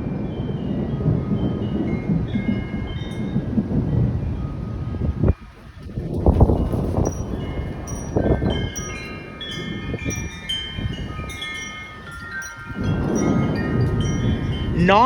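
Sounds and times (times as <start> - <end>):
metal wind chimes ringing: 0.0 - 15.0
thunder rumbling: 0.0 - 15.0.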